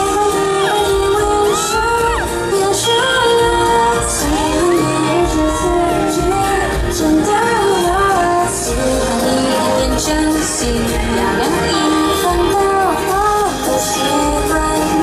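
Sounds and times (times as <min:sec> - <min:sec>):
woman singing pop song: 0:00.0 - 0:15.0.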